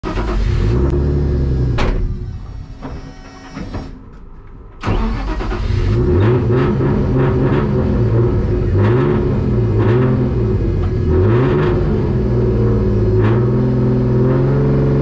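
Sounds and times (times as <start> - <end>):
car engine revving: 0.0 - 2.2, 4.8 - 15.0.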